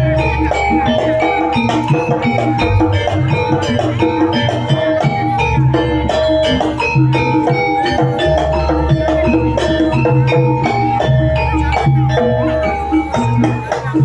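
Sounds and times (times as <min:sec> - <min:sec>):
drum strokes: 0:00.0 - 0:14.0.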